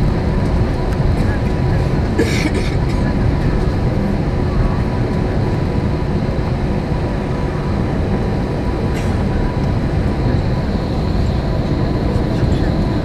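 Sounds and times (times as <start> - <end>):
faint steady whine: 0.0 - 13.0
rumble of wheels and engines: 0.0 - 13.0.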